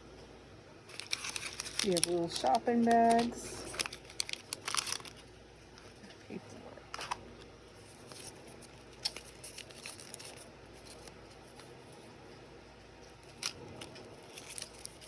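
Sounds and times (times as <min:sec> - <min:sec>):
paper and plastic handling: 0:00.9 - 0:06.2, 0:06.9 - 0:12.1, 0:13.0 - 0:15.0.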